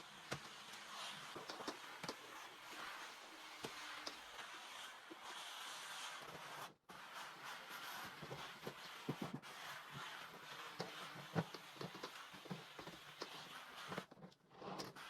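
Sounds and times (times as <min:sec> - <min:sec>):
steam mop hissing: 0:00.0 - 0:14.1.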